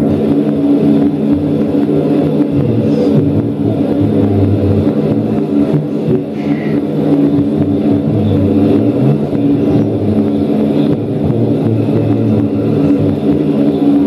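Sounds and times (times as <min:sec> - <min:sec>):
electronic noise drone: 0:00.0 - 0:14.0.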